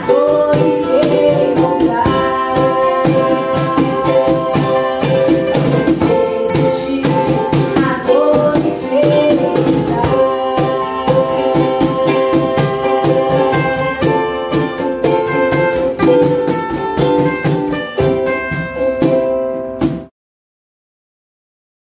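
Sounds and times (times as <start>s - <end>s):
cajon strokes: 0.0s - 20.1s
strummed guitar and ukulele: 0.0s - 20.1s.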